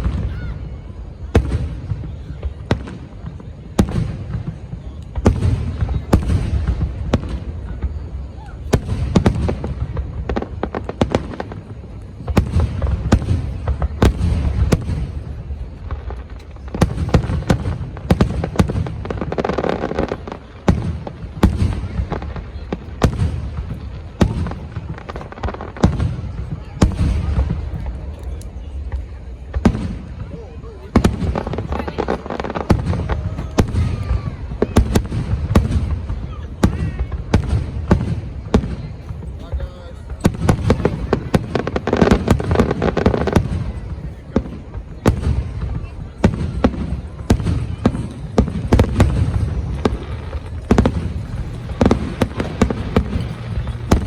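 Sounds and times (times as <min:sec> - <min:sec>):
firework bangs: 0:00.0 - 0:54.0.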